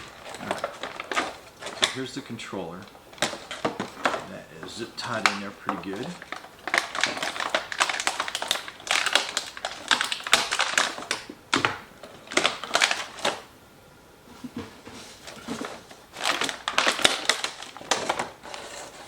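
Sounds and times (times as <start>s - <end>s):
plastic and cardboard crackling: 0.0s - 13.5s, 14.3s - 19.0s.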